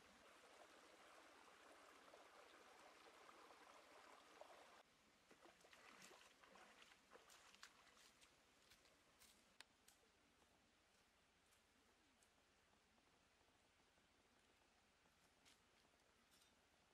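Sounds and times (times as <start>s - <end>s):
faint steady hiss: 0.0s - 16.9s.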